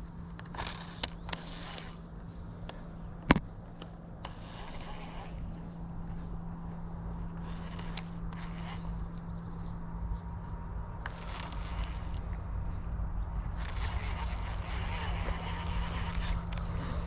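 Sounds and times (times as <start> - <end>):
insects calling: 0.0 - 17.0
low steady hum: 0.0 - 17.0.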